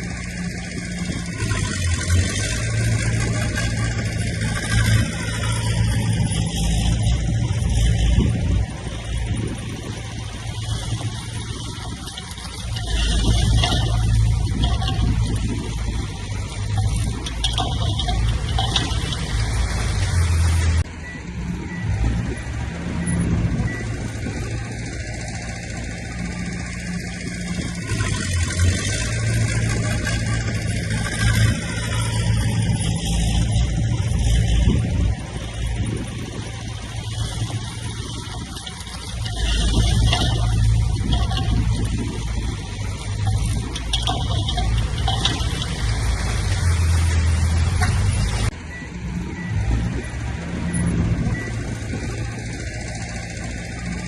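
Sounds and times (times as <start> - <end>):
machinery clatter: 0.0 - 20.9, 21.7 - 48.6
heavy diesel engine rumbling: 0.0 - 54.0.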